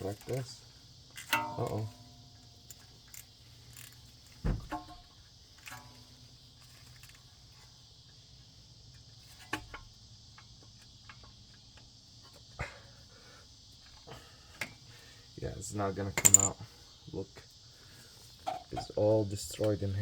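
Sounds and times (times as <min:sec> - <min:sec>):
faint high-pitched hum: 0:00.0 - 0:20.0.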